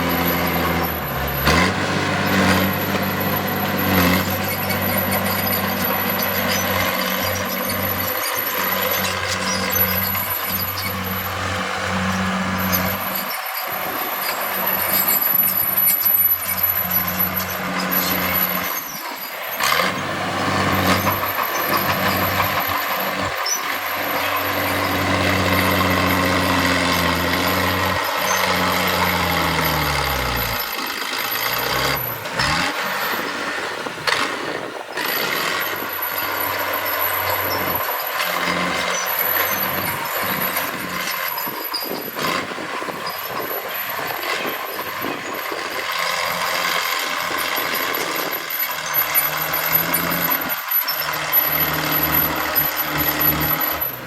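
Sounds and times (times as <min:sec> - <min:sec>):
dense machinery clatter: 0:00.0 - 0:54.0
diesel engine running: 0:00.0 - 0:54.0.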